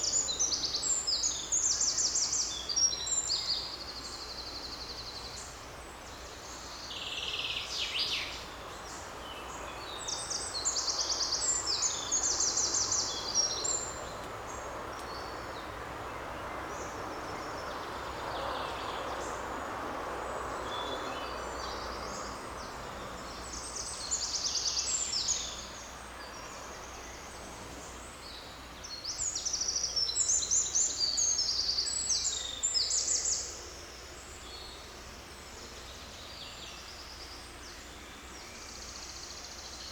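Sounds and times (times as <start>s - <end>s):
rushing forest background: 0.0s - 39.9s.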